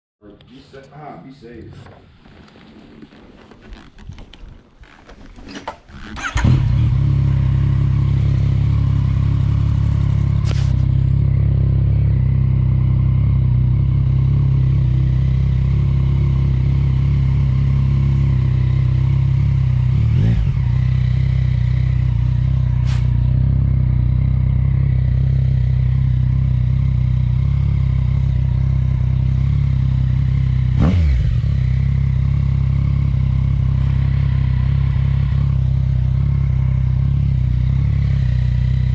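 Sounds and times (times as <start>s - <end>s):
motorcycle engine idling: 4.8s - 38.9s.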